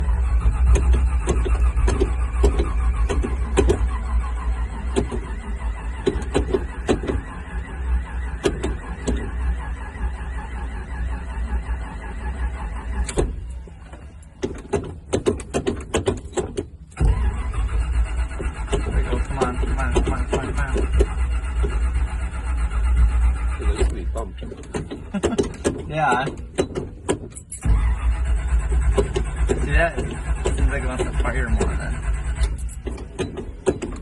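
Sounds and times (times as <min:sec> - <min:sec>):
car engine cranking: 0:00.0 - 0:34.0.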